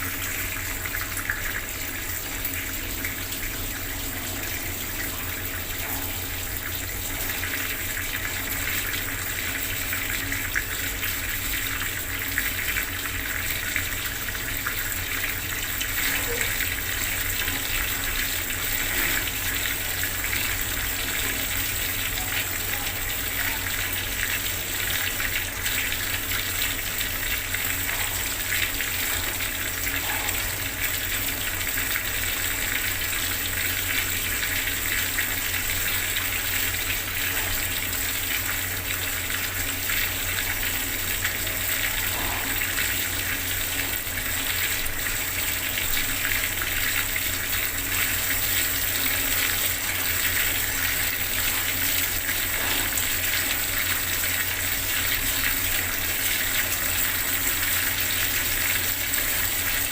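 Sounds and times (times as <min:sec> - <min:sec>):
tap running water splashing: 0:00.0 - 0:59.9.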